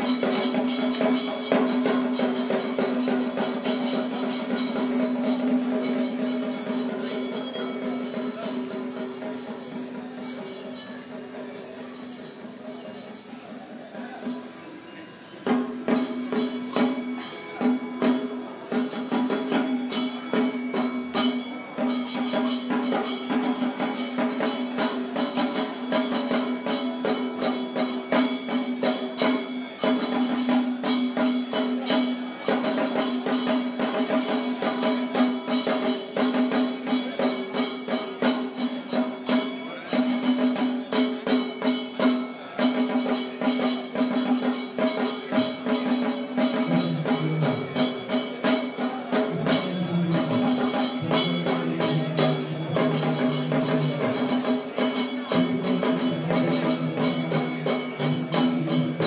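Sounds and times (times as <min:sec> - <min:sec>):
drums beating fast rhythm: 0:00.0 - 0:59.0
hand cymbals: 0:00.0 - 0:59.0.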